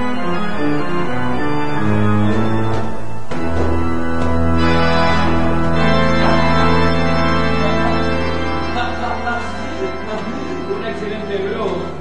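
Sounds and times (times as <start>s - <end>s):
organ sustained chords: 0.0s - 12.0s.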